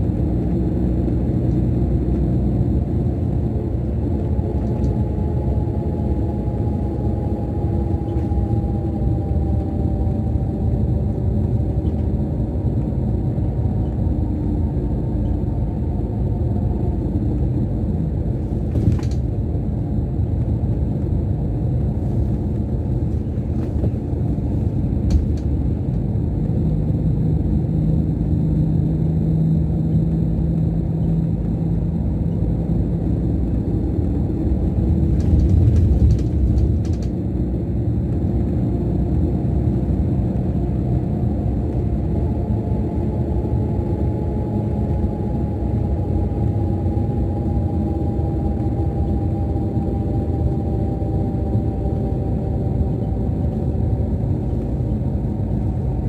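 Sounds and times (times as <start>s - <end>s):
bus diesel engine drone: 0.0s - 56.0s
steady hum: 0.0s - 56.0s.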